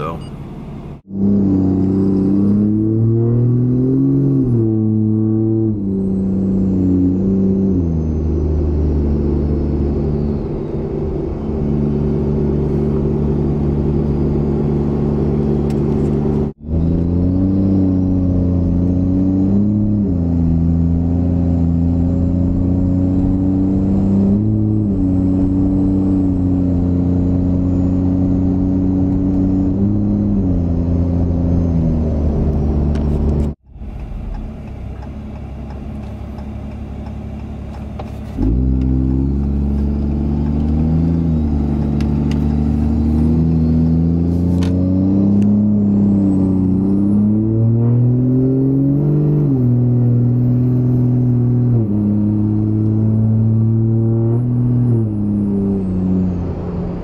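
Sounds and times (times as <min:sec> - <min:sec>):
diesel truck engine shifting gears: 0:00.0 - 0:57.0.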